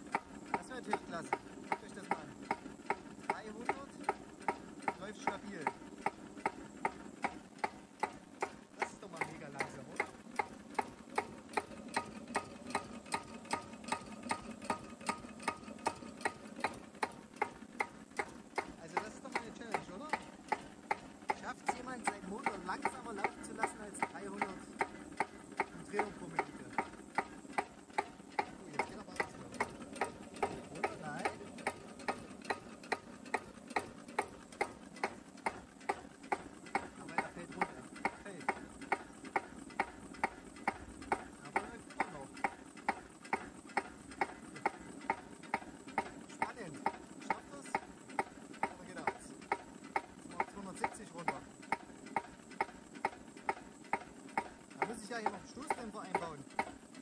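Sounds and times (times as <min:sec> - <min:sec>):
diesel engine idling with even knock: 0:00.0 - 0:57.0.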